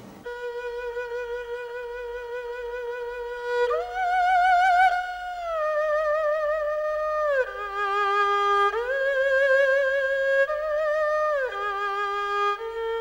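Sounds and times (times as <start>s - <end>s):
erhu melody: 0.2s - 13.0s.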